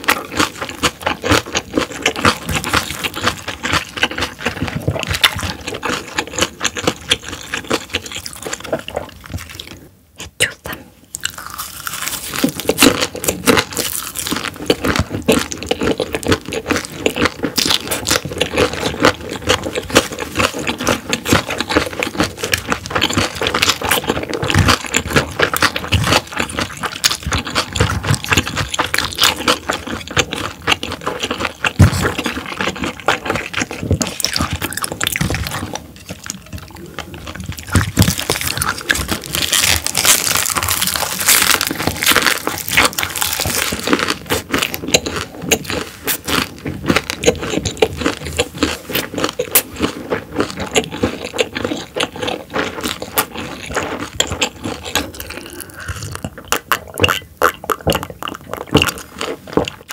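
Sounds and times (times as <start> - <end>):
wet crunchy chewing: 0.0 - 59.9.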